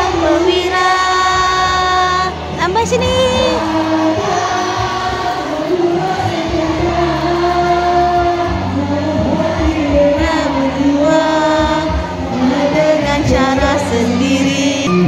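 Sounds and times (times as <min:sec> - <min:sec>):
steady bass accompaniment: 0:00.0 - 0:15.0.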